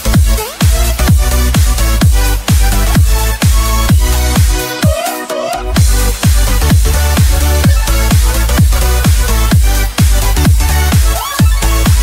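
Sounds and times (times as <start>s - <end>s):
pounding kick drum: 0.0s - 5.1s, 5.7s - 12.0s
electronic dance music: 0.0s - 12.0s.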